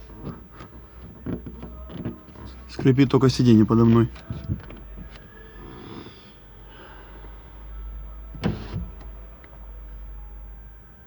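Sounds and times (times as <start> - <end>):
electric sunroof motor running: 0.0 - 11.0.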